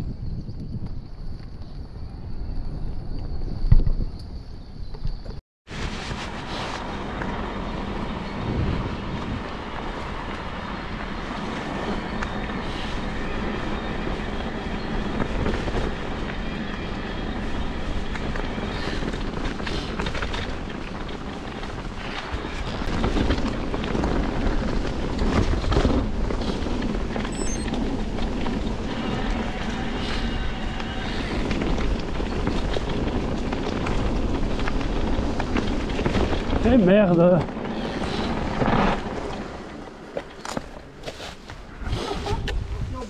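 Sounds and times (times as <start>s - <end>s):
bike tyres rumbling on dirt: 0.0s - 43.0s
wind buffeting microphone: 0.0s - 43.0s.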